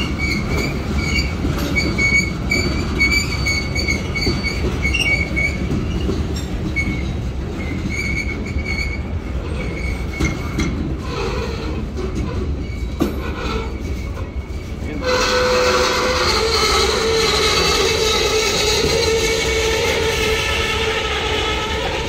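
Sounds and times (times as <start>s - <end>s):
high-pitched wheel squeals: 0.0s - 22.0s
rumble of train wheels on rail: 0.0s - 22.0s.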